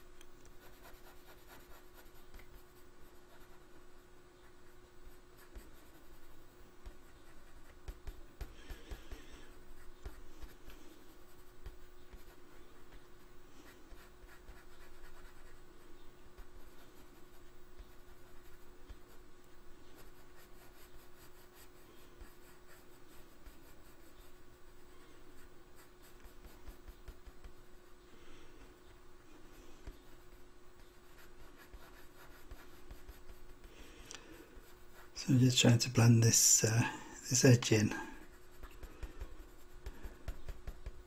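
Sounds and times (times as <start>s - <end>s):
faint steady hum: 0.0s - 41.0s
coloured pencil scratching on paper: 0.6s - 27.6s, 29.4s - 35.7s, 36.4s - 41.0s.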